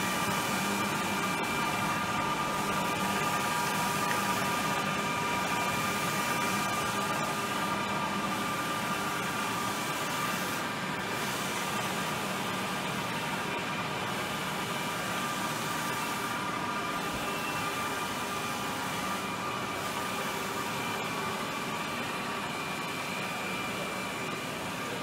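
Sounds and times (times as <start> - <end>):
printer hiss and hum: 0.0 - 25.0.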